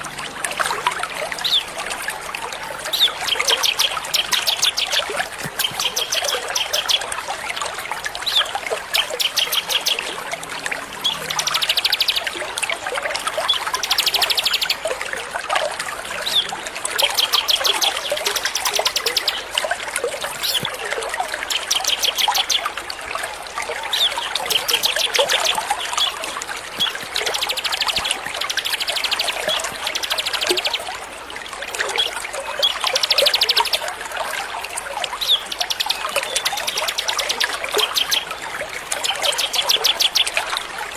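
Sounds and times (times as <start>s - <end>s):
trickle of running water: 0.0s - 40.9s.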